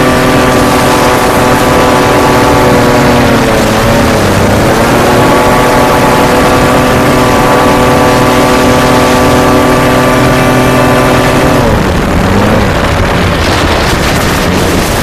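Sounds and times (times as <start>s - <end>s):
hovercraft engine and propeller: 0.0s - 15.0s.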